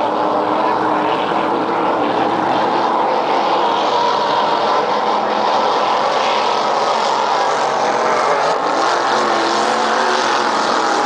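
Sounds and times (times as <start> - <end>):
race boat engine droning: 0.0 - 11.0.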